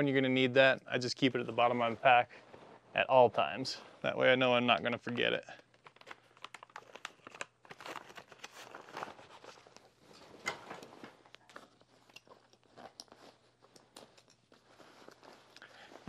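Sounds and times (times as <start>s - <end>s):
rustling and crinkling: 1.2s - 4.1s, 5.2s - 16.0s.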